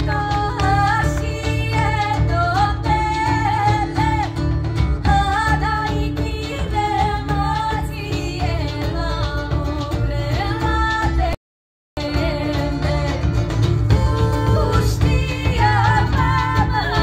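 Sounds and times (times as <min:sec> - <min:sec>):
acoustic guitar: 0:00.0 - 0:11.4, 0:12.0 - 0:17.0
double bass: 0:00.0 - 0:11.4, 0:12.0 - 0:17.0
drums: 0:00.0 - 0:11.4, 0:12.0 - 0:17.0
women singing: 0:00.0 - 0:11.4, 0:12.0 - 0:17.0.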